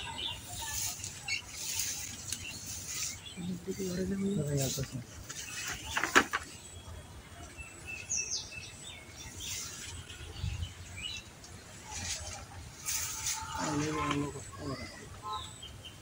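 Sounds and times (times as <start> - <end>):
leaves and branches rustling: 0.0 - 15.2
small birds chirping: 0.0 - 16.0.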